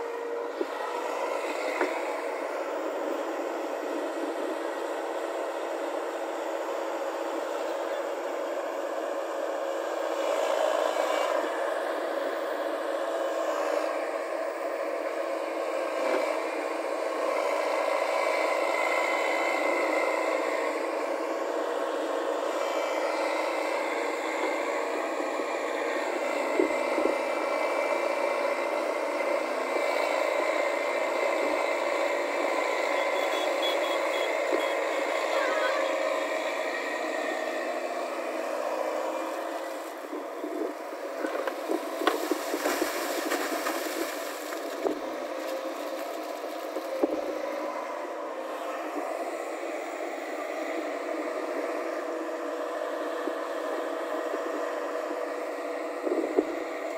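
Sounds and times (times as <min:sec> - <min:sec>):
excavator diesel engine under load: 0:00.0 - 0:56.9.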